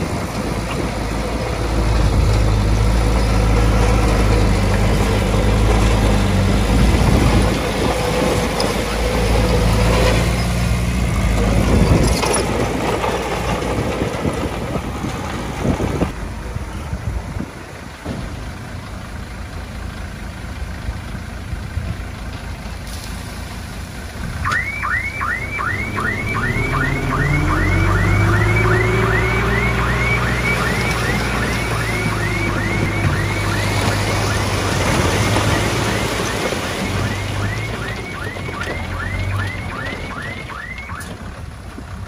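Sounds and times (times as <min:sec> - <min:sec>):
diesel machinery running: 0:00.0 - 0:42.0
heavy engine hum: 0:00.0 - 0:42.0.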